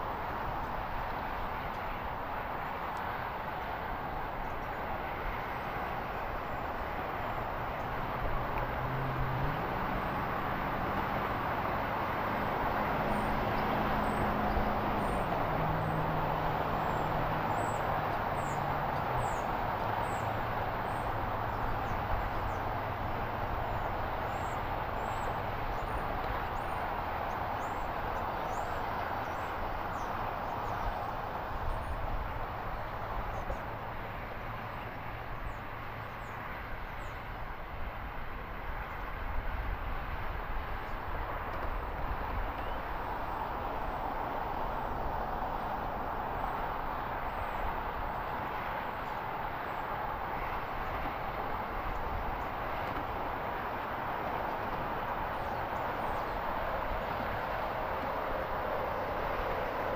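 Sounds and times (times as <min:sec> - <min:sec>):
distant traffic rumble: 0:00.0 - 0:59.9.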